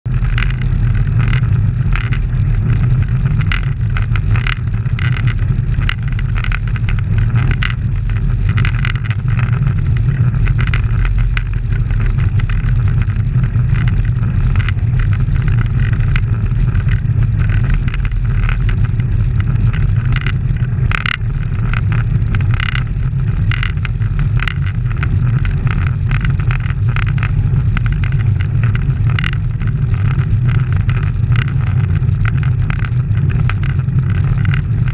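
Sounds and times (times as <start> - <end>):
road and tyre noise: 0.0 - 34.9
wind rumble on microphone: 0.0 - 34.9.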